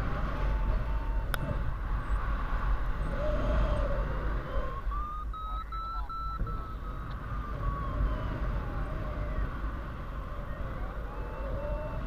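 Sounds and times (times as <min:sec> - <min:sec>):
variometer audio tone: 0:00.0 - 0:12.0
wind rushing over microphone: 0:00.0 - 0:12.0.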